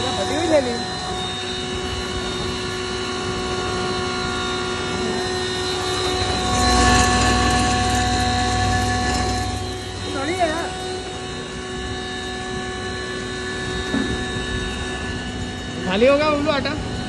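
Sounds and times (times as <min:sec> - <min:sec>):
grinding machine humming: 0:00.0 - 0:17.0.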